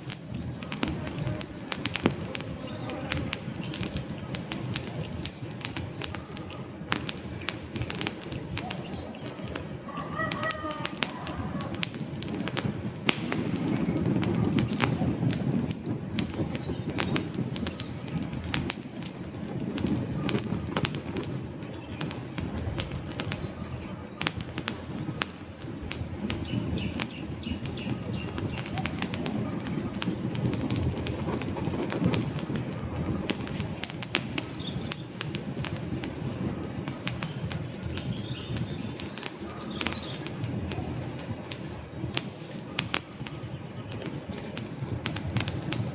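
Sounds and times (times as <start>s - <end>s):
campfire crackling and popping: 0.0s - 45.9s
fluttering rumble of flames: 0.0s - 45.9s.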